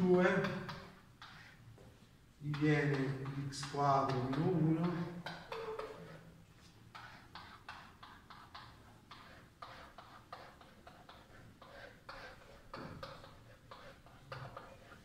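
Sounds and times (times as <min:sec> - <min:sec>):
pen scratching on a whiteboard: 0:00.0 - 0:15.0.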